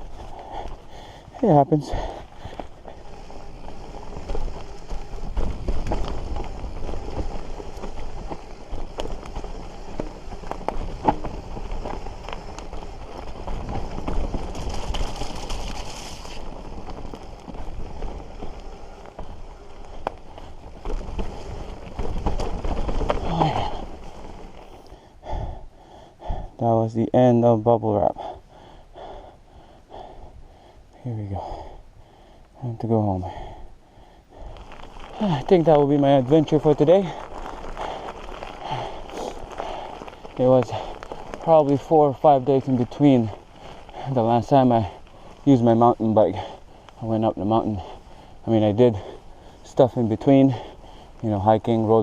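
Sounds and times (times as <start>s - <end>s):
bike rattling and knocking: 0.0s - 25.4s, 34.4s - 52.0s
bike tyres rumbling on dirt: 0.0s - 52.0s.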